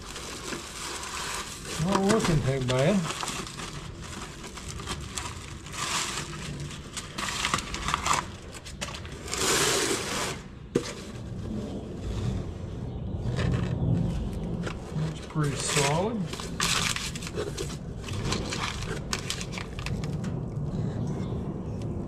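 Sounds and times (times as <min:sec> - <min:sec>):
plastic and paper crinkling: 0:00.0 - 0:11.4, 0:13.2 - 0:20.3.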